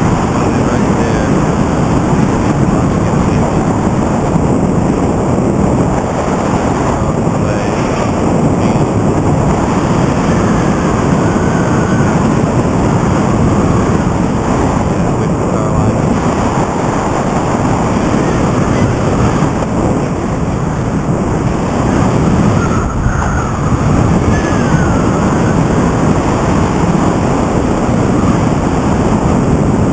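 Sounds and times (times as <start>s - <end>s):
paraglider motor rushing: 0.0s - 29.9s
wind buffeting microphone: 0.0s - 29.9s.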